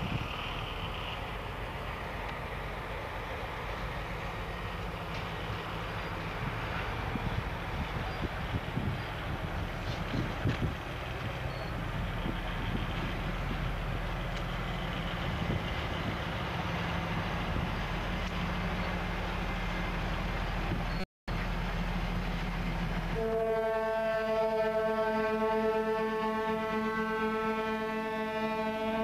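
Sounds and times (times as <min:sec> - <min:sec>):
freight train rumbling past: 0:00.0 - 0:29.0.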